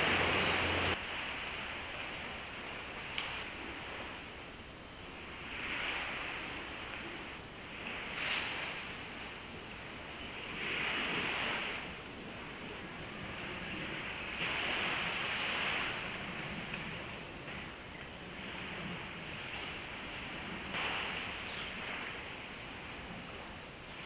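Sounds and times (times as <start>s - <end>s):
small waves washing onto beach: 0.0s - 24.0s.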